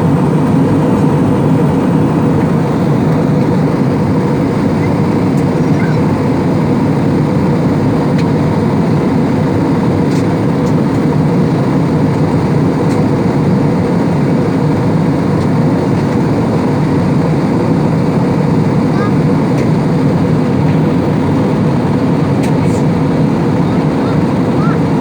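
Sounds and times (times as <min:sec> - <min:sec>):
jet engine drone and rushing air: 0:00.0 - 0:25.0.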